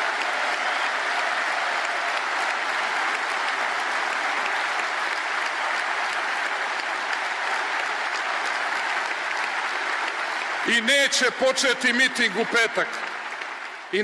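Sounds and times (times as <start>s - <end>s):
large audience applauding: 0.0s - 14.0s.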